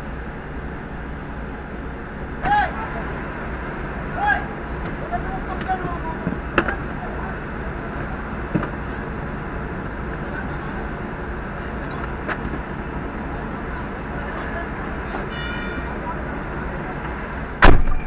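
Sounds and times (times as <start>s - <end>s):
diesel engine droning: 0.0s - 18.0s
road noise: 0.0s - 18.0s.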